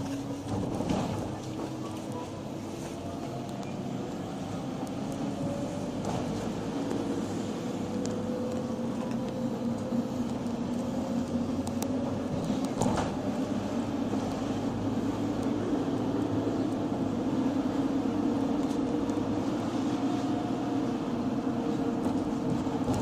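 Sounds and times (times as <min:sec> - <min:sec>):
minibus engine whine: 0:00.0 - 0:23.0
road rumble: 0:00.0 - 0:23.0.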